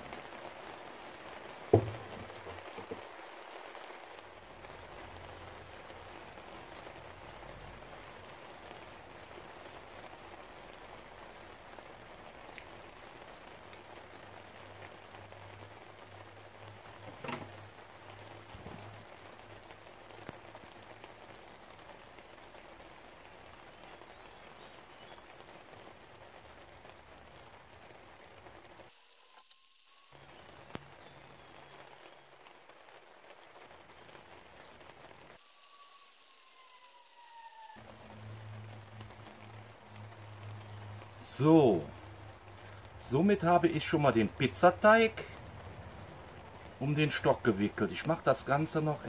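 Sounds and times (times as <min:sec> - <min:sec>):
faint background hiss: 0:00.0 - 0:49.0
faint rain-like patter: 0:00.0 - 0:49.0.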